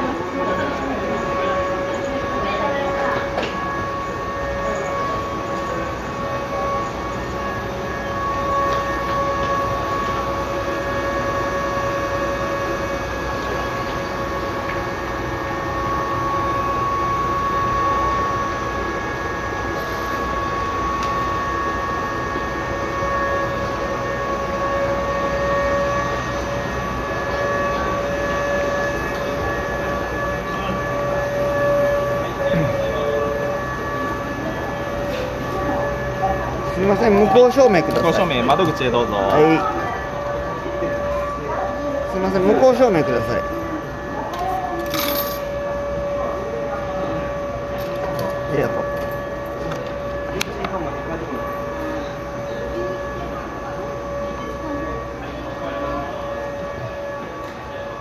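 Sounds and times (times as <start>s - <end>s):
electric train hum: 0.0s - 58.0s
station noise: 0.0s - 58.0s.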